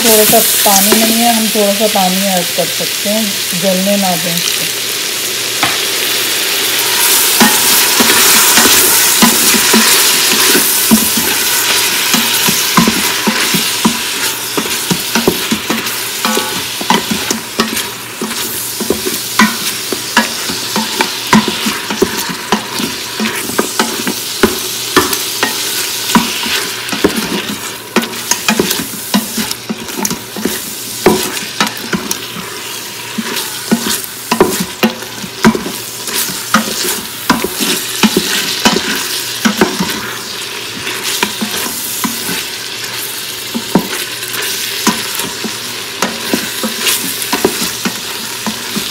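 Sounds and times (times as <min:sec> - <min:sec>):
meat sizzling in a pot: 0:00.0 - 0:48.9.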